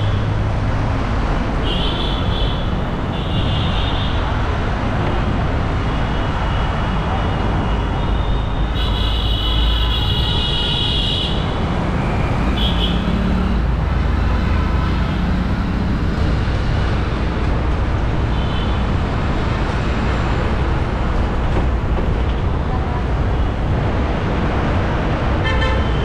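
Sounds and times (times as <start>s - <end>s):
rumble of traffic engines: 0.0s - 26.0s.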